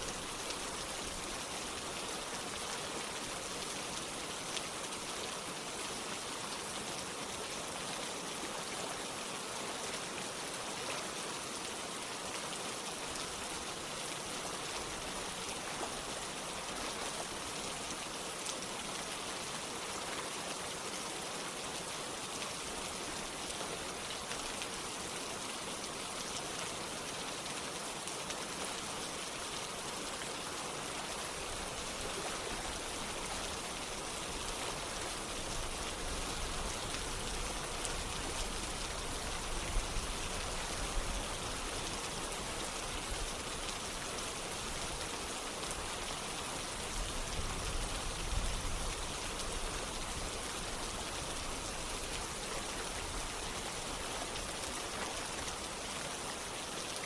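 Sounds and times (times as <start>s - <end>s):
running water: 0.0s - 57.0s
steady rain falling: 0.0s - 57.0s.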